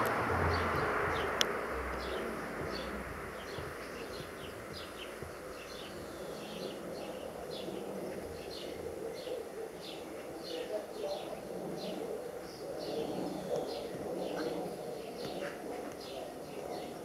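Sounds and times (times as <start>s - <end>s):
distant rushing noise: 0.0s - 17.0s
small birds chirping: 0.0s - 17.0s.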